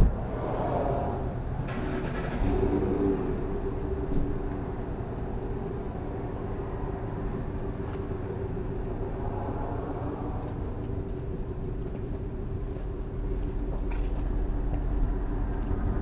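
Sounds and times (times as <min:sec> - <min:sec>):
steady hum: 0:00.0 - 0:16.0
vehicle engine rumbling: 0:00.0 - 0:16.0.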